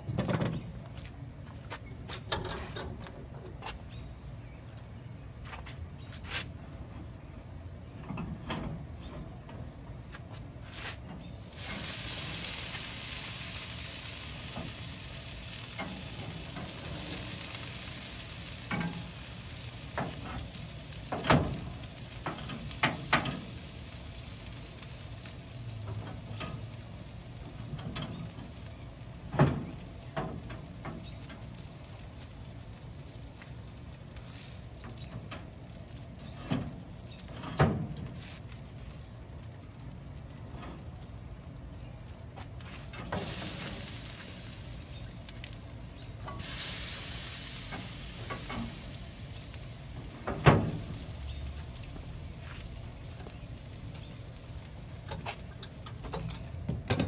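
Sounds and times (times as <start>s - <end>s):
marinade sizzling on meat: 10.2s - 56.7s.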